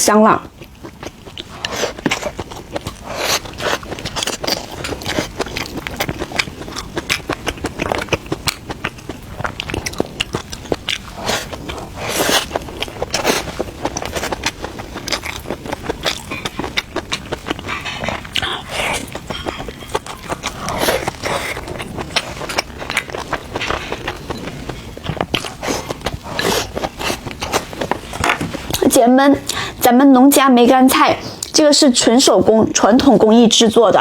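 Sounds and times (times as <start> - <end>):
person biting and chewing food: 0.5 - 28.9.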